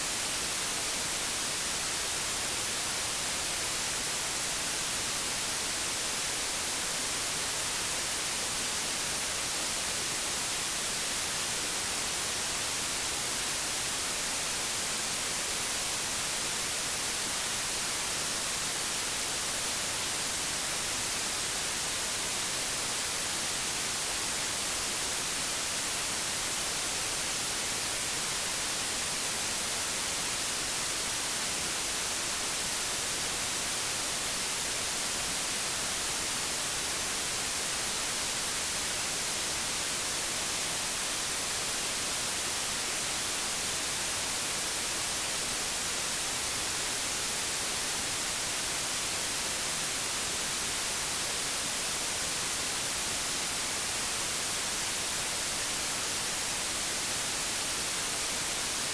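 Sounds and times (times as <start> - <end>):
television static hiss: 0.0 - 58.9.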